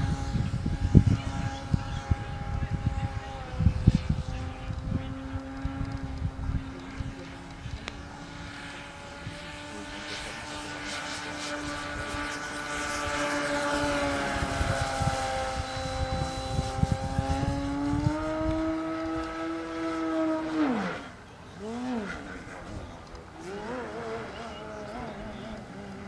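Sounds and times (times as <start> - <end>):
model plane motor whining: 0.0 - 26.0.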